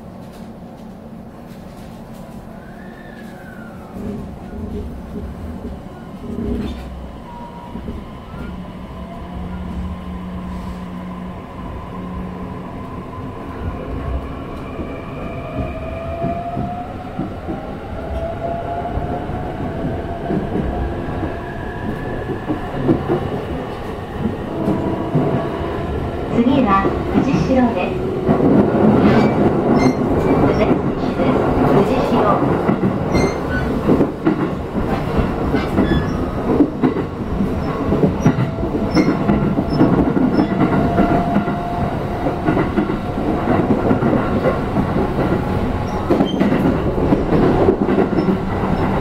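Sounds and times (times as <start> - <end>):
wheel and rail rumble: 0.0 - 49.0.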